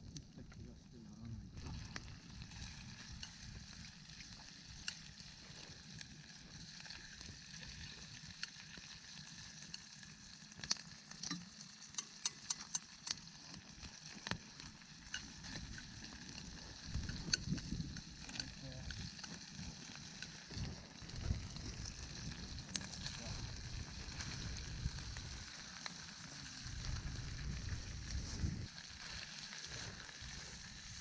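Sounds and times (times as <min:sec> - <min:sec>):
food sizzling over campfire: 0:00.0 - 0:31.0.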